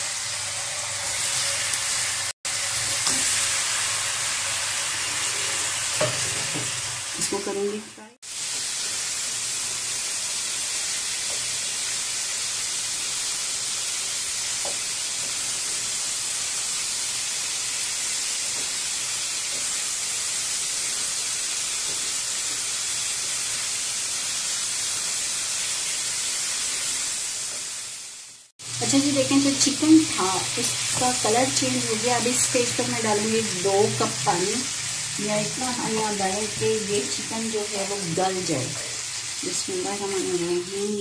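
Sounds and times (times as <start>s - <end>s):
chicken frying in hot oil: 0.0s - 41.0s.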